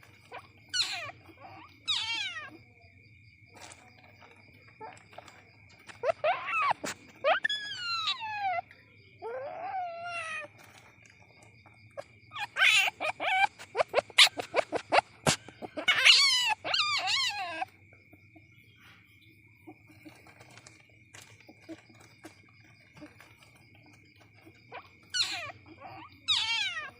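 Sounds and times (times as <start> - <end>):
civet wavering cries: 0.0 - 2.7, 4.6 - 26.9.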